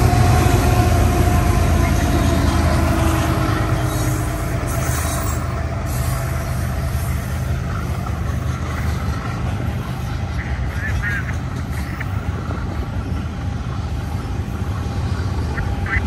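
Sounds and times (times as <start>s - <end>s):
freight train wheels on rail: 0.0s - 16.0s.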